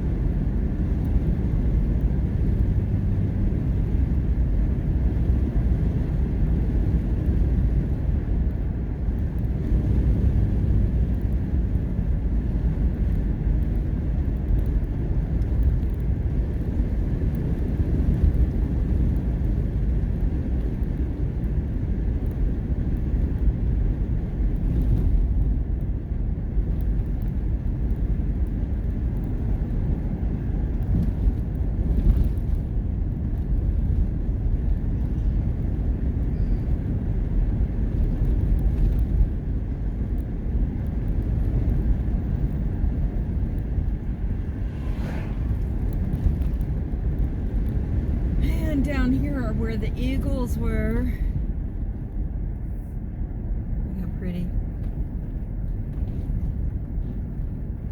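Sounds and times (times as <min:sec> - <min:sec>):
vehicle cabin road rumble: 0:00.0 - 0:57.9.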